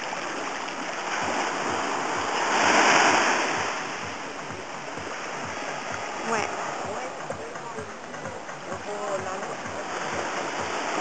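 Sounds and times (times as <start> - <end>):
sea wave washing up beach: 0.0 - 8.2, 8.8 - 11.0.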